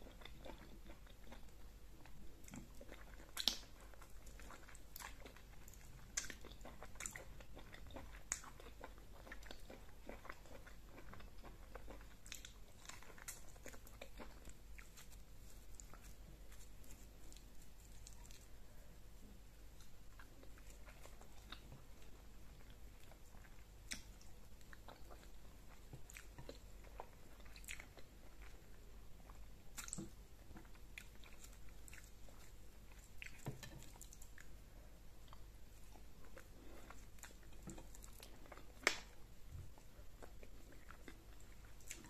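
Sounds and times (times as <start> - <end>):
person chewing: 0.0 - 42.0.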